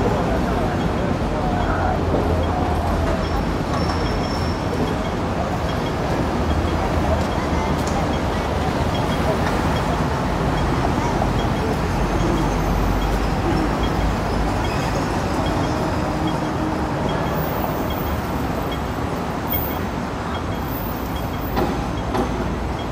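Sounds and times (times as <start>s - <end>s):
low urban rumble: 0.0s - 22.9s.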